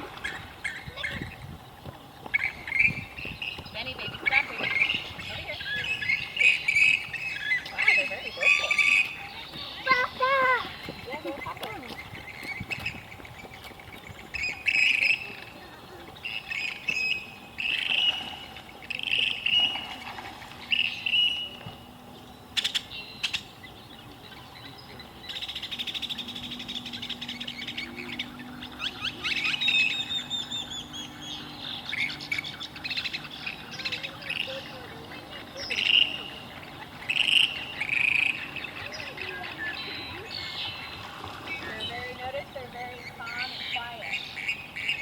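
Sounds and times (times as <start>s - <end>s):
songbird chirped phrase: 0.0s - 45.0s.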